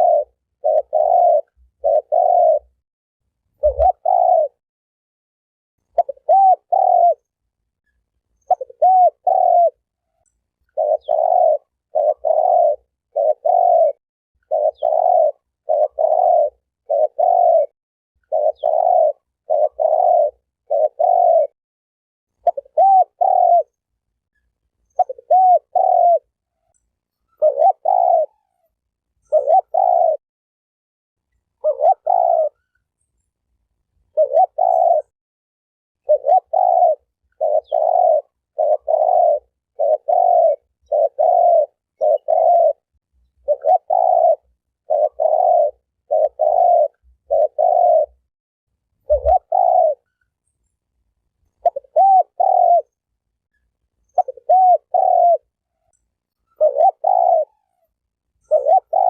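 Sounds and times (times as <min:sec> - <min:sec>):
dove cooing: 0:00.0 - 0:02.8, 0:03.6 - 0:04.6, 0:05.9 - 0:07.3, 0:08.4 - 0:21.6, 0:22.4 - 0:23.8, 0:24.8 - 0:30.2, 0:31.6 - 0:32.9, 0:34.1 - 0:35.1, 0:36.0 - 0:48.3, 0:49.0 - 0:50.2, 0:51.5 - 0:53.0, 0:54.0 - 0:59.0.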